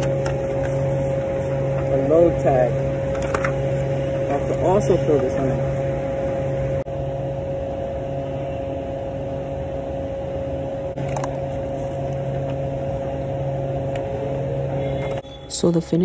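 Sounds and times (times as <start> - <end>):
machine hum with whine: 0.0 - 16.0.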